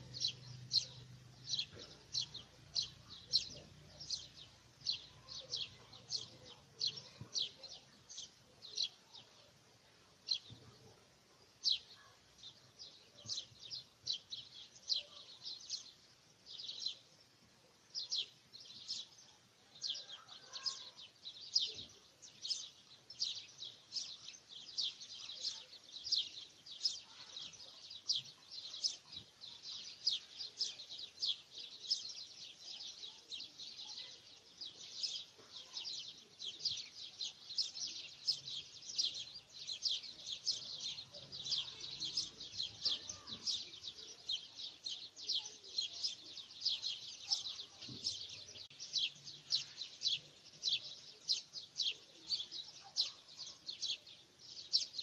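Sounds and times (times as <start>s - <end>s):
birds chirping: 0.0s - 9.6s, 10.2s - 55.0s.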